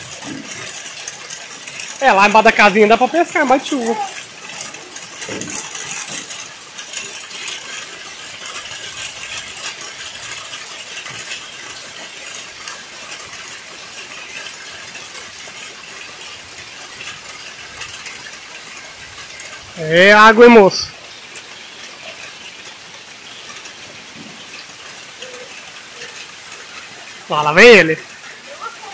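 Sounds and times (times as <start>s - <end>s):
heavy rain on wet ground: 0.0s - 28.9s.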